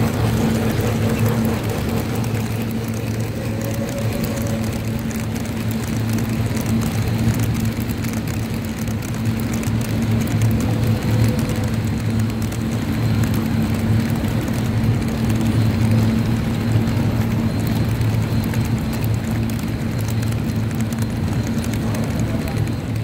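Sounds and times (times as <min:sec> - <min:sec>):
model trains on metal track: 0:00.0 - 0:23.0.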